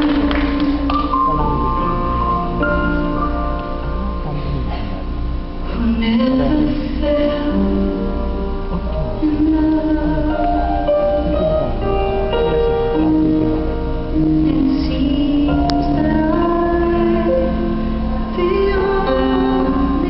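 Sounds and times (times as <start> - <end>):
live band playing slow ballad: 0.0 - 20.0.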